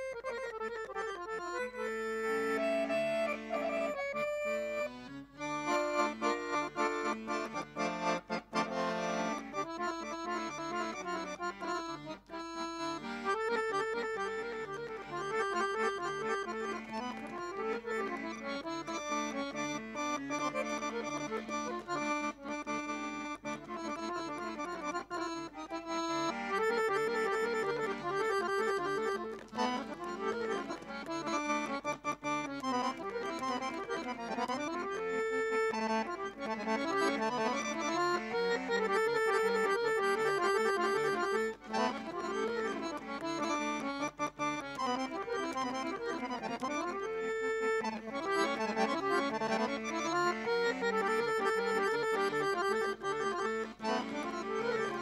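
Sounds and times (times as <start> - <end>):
piano accordion playing fast piece: 0.0 - 55.0.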